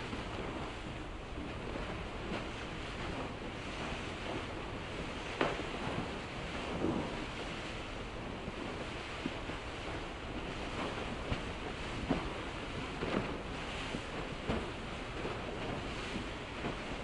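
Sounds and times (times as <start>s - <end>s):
churning water and ice: 0.0s - 17.0s.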